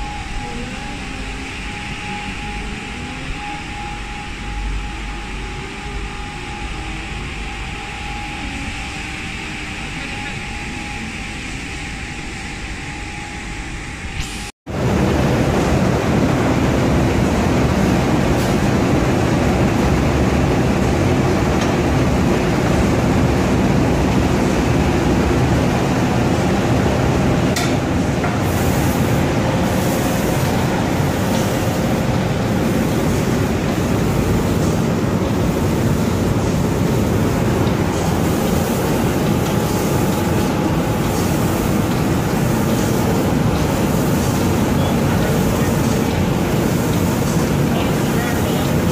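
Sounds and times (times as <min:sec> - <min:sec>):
machinery and air rushing: 0:00.0 - 0:48.9.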